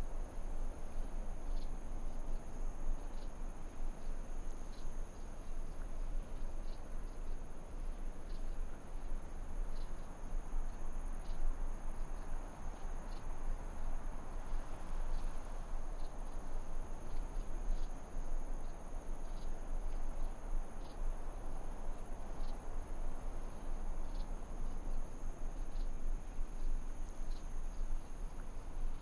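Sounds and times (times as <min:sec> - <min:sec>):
crickets trilling: 0:00.0 - 0:29.0
low rumbling hiss: 0:00.0 - 0:29.0
faint ticks: 0:00.1 - 0:29.0.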